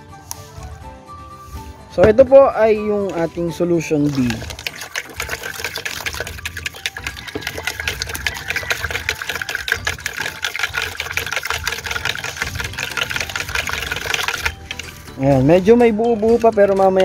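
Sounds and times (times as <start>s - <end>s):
plastic fork stirring in pitcher: 3.0s - 17.0s
liquid sloshing: 3.1s - 17.0s.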